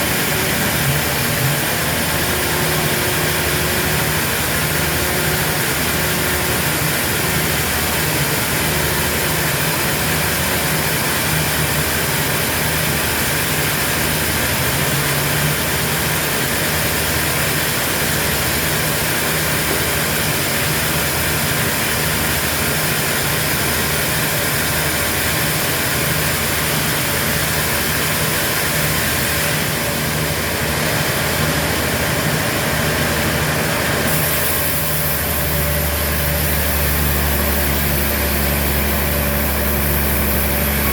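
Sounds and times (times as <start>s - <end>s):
pulsing low engine hum: 0.0s - 23.0s, 24.4s - 40.9s
sawmill machinery hiss: 0.0s - 40.9s.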